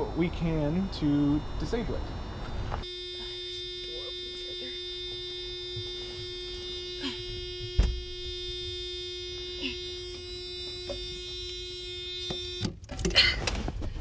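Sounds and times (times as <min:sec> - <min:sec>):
car door warning buzzer: 0:00.0 - 0:12.9.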